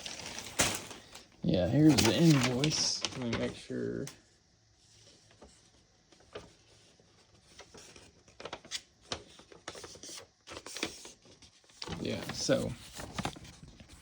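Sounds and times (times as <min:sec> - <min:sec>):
paper and packaging rustling: 0:00.0 - 0:04.1, 0:05.1 - 0:14.0.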